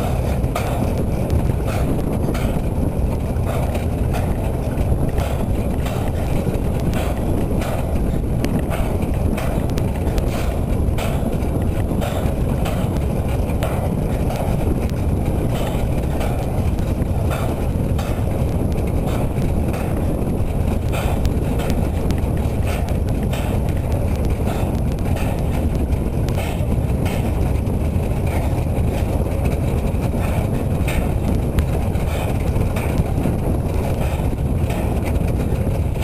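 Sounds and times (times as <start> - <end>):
railway wagons rumbling: 0.0 - 36.0
wheels clicking over rail joints: 0.0 - 36.0.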